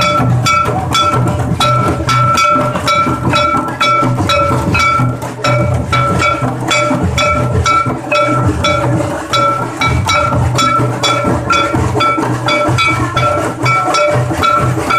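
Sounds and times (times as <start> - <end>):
drumming in steady rhythm: 0.0 - 14.9.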